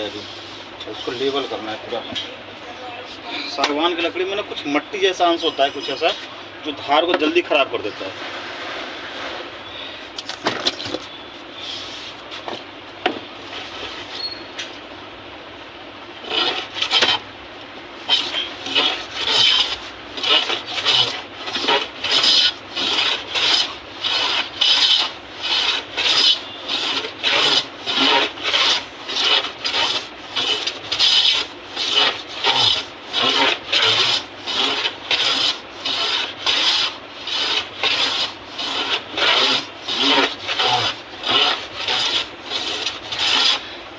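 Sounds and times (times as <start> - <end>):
hand tool scraping wood: 0.0 - 2.2, 3.1 - 6.4, 10.1 - 14.5, 16.2 - 17.3, 18.0 - 43.9.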